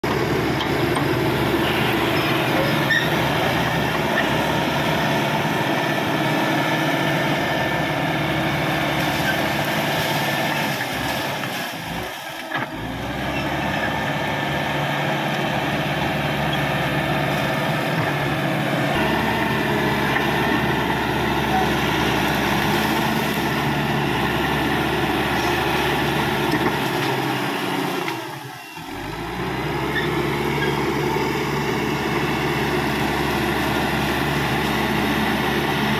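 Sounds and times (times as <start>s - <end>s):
bulldozer diesel engine running: 0.0s - 35.9s.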